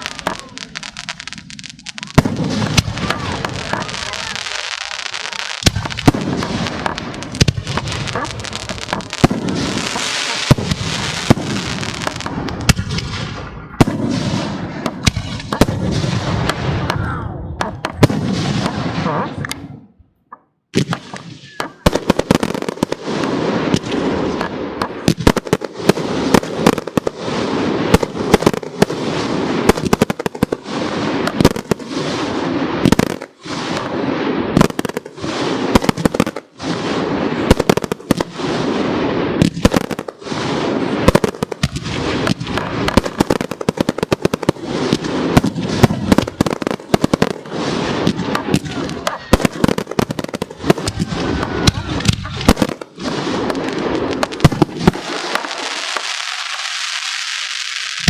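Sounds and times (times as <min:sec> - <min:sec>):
fireworks bursting with sharp bangs: 0:00.0 - 0:20.0, 0:20.7 - 0:58.0.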